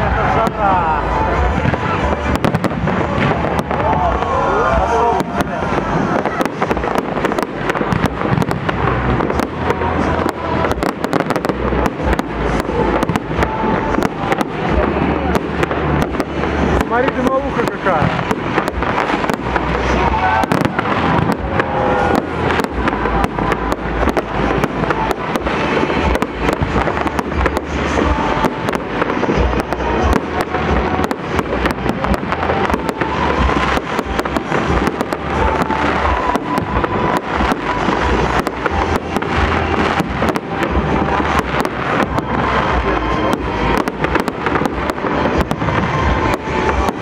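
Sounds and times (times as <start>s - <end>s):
fireworks bursting and crackling: 0.0s - 47.0s
music playing: 0.0s - 47.0s.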